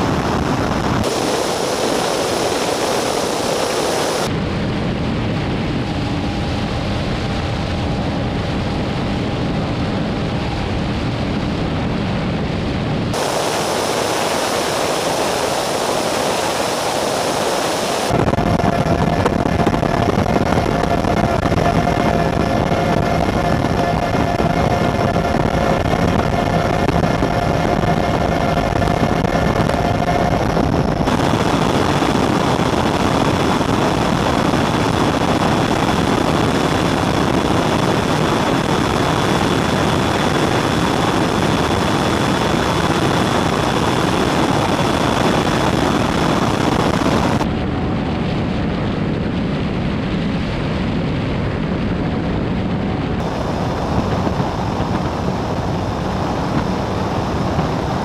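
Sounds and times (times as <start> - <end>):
racing boat engine and spray rush: 0.0 - 58.0.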